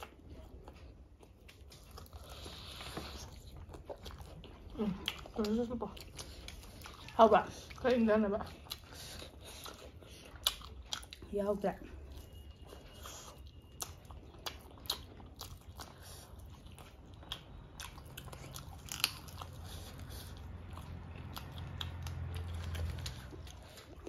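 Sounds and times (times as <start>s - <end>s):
people chewing fried chicken: 0.0s - 24.0s.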